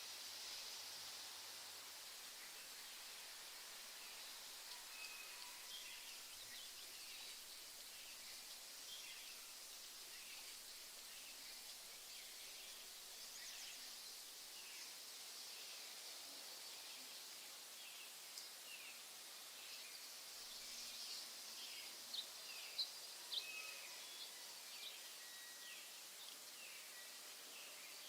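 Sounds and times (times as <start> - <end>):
steady high hiss: 0.0 - 28.0.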